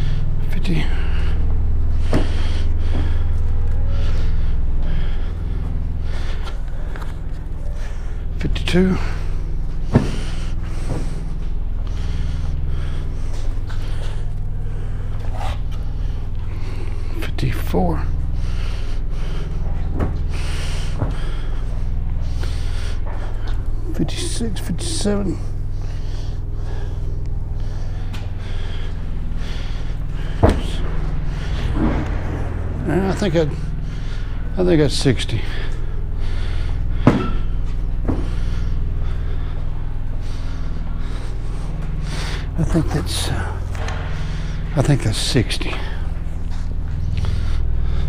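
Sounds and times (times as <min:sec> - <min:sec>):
breathing close to microphone: 0:00.0 - 0:45.0, 0:45.7 - 0:48.0
low engine-like hum: 0:00.0 - 0:48.0
low mechanical drone: 0:00.0 - 0:48.0.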